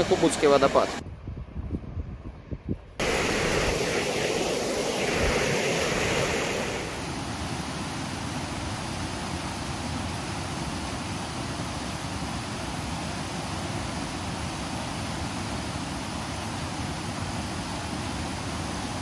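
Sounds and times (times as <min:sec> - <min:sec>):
river rushing over rocks: 0:03.0 - 0:19.0.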